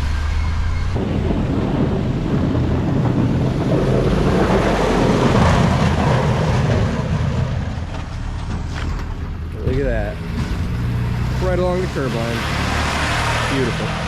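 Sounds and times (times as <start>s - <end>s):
snow plow truck pushing snow: 0.0s - 14.0s.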